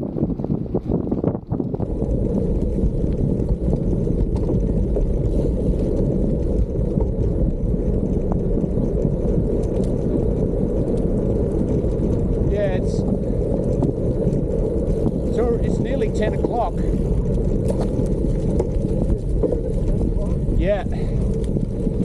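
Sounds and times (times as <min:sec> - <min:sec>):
tyres rolling on unpaved trail: 0:00.0 - 0:22.0
wind buffeting microphone: 0:00.0 - 0:22.0.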